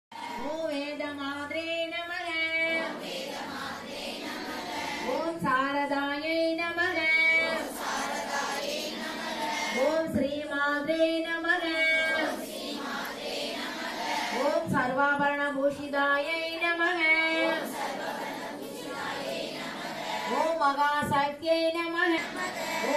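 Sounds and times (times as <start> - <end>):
woman singing devotional song: 0.2 - 22.9.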